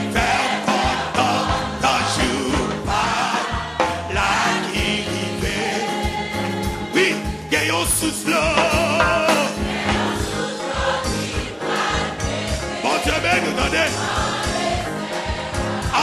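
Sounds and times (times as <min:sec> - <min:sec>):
band with steady beat: 0:00.0 - 0:16.0
voices singing together: 0:00.0 - 0:16.0.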